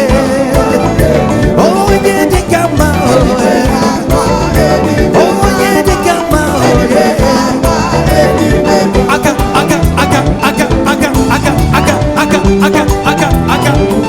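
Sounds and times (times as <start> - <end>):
bass and drum beat: 0.0 - 14.0
live band playing gospel music: 0.0 - 14.0
person singing: 0.0 - 14.0.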